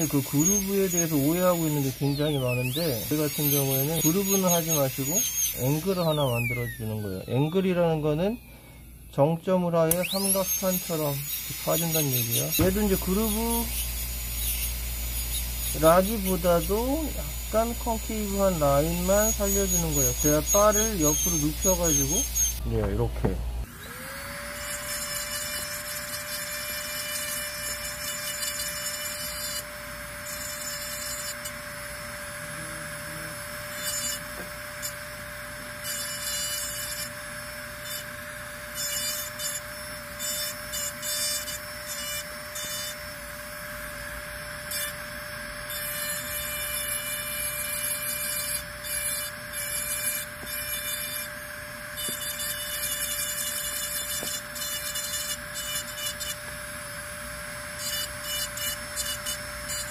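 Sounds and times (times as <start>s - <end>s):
dental handpiece whine: 0.0s - 59.9s.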